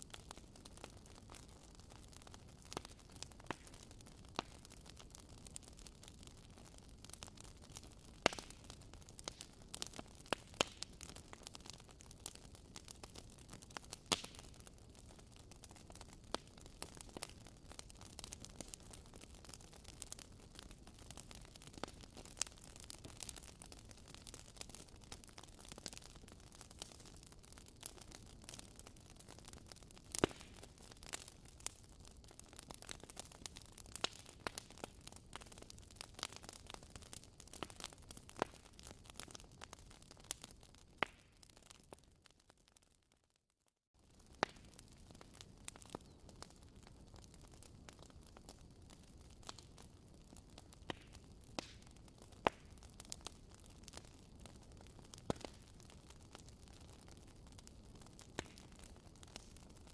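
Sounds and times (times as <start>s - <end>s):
wood fire crackling: 0.0s - 43.1s, 44.0s - 59.9s.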